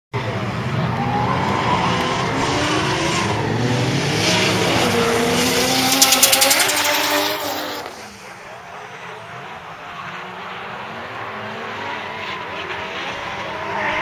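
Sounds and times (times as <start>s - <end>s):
car engine revving: 0.2s - 14.0s.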